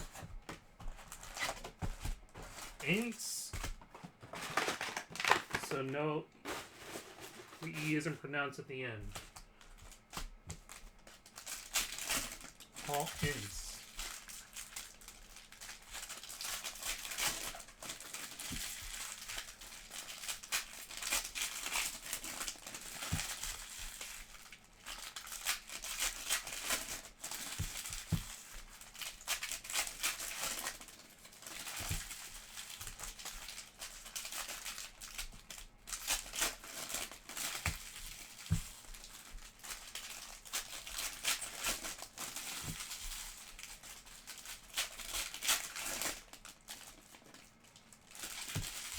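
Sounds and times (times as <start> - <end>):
foil wrappers crinkling: 0.0 - 48.9.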